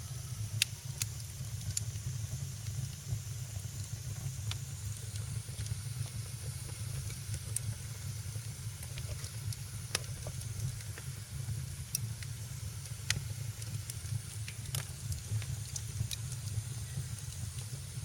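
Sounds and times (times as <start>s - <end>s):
low rumble and soft hiss: 0.0s - 18.0s
wood fire crackling: 0.1s - 18.0s.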